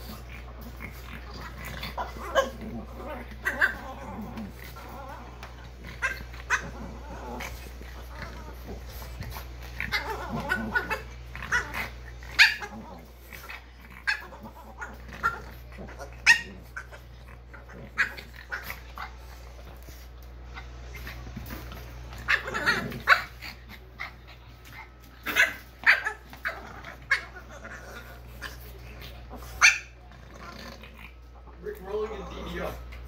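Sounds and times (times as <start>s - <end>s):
dogs yipping and barking: 0.0s - 20.0s, 20.9s - 30.0s
dogs growling: 0.0s - 33.0s.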